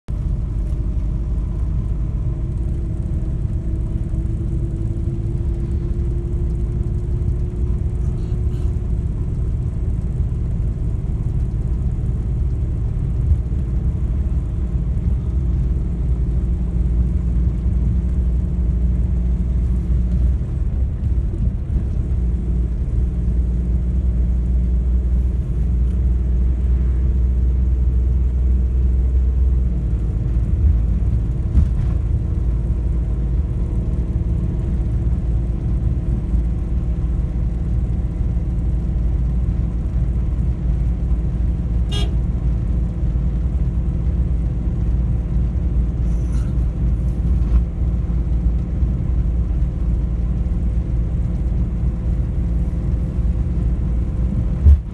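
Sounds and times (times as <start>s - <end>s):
car road noise rumble: 0.1s - 54.9s
faint engine hum: 0.1s - 54.9s.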